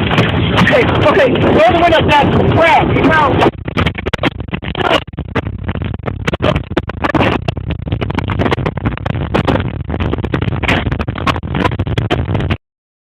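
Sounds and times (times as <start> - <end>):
debris and rain striking car: 0.0 - 12.6
tornado winds battering car: 0.0 - 12.6.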